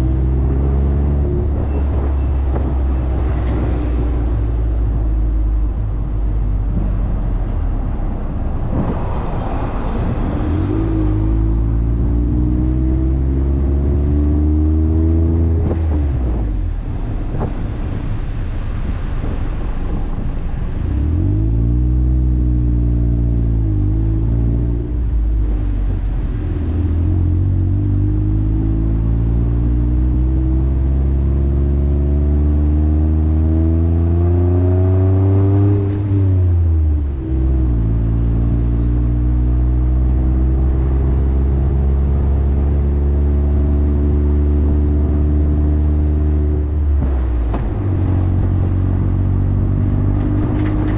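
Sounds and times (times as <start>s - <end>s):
motorcycle exhaust while riding: 0.0s - 9.2s, 10.0s - 18.0s, 18.8s - 50.9s
wind noise on microphone: 0.0s - 50.9s.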